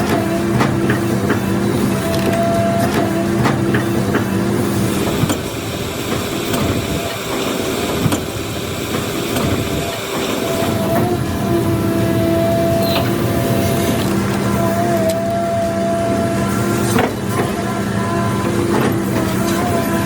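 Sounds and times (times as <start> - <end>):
heavy machine engine running: 0.0 - 20.0.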